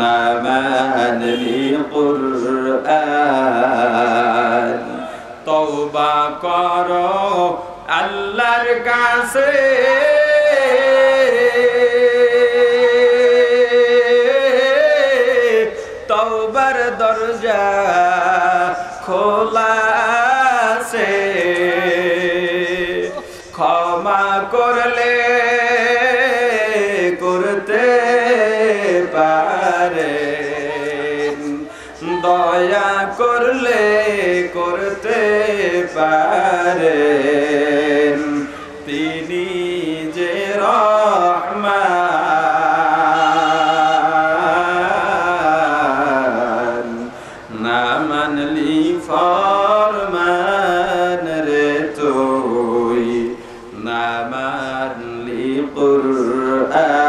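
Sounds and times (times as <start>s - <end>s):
man chanting religious recitation: 0.0s - 57.0s.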